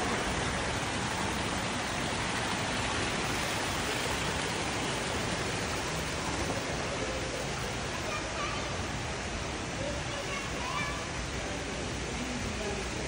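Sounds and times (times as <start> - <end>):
waterfall splashing over rocks: 0.0 - 13.0.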